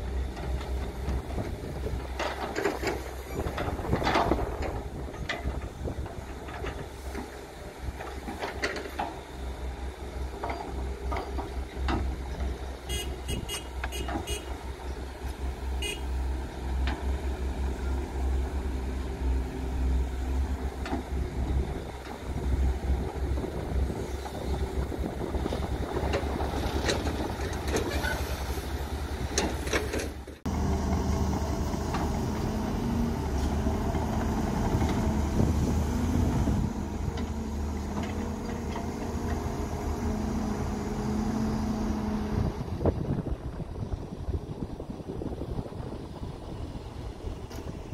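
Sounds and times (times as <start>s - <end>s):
excavator engine rumbling: 0.0s - 47.9s.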